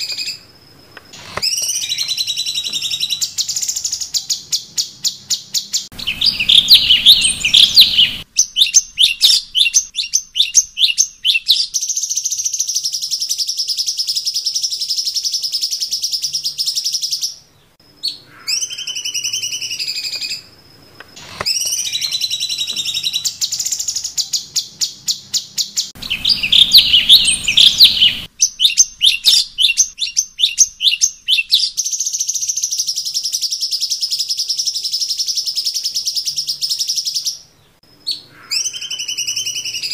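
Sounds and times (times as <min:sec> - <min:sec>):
falling whistled bird notes: 0:01.2 - 0:17.3, 0:21.2 - 0:37.2, 0:38.0 - 0:39.9
bird chattering trills and chirps: 0:01.2 - 0:17.4, 0:21.2 - 0:39.9.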